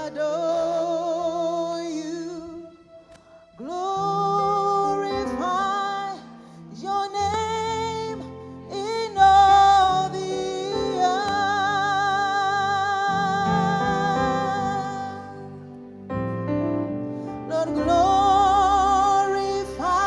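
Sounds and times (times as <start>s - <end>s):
person singing gospel: 0.0s - 16.1s, 16.8s - 20.0s
keyboard chords: 0.0s - 20.0s.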